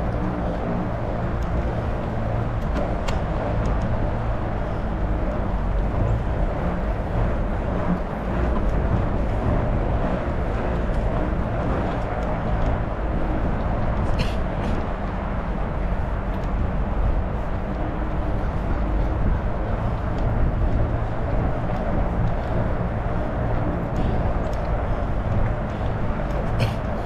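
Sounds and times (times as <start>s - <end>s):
wind and bike tyres rolling: 0.0s - 27.0s.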